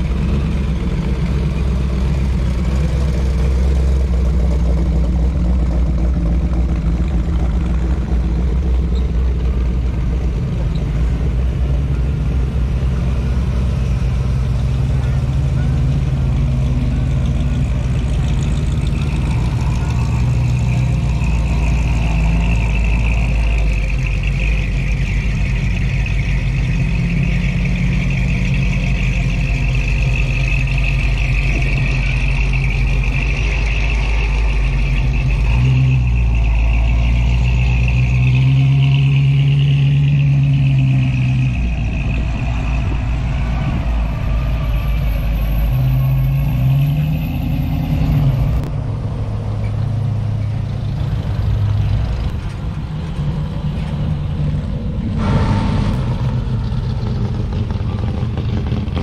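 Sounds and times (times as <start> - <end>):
car engines rumbling: 0.0 - 59.0.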